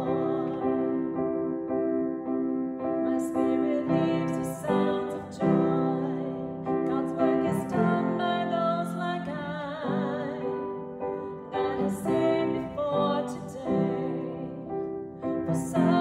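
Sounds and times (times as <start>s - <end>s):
woman singing: 0.0s - 1.4s, 2.9s - 16.0s
piano chords: 0.0s - 16.0s.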